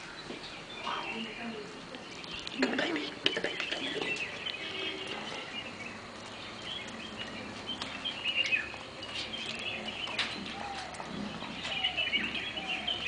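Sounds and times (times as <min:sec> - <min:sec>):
high chirping animal calls: 0:00.5 - 0:13.0.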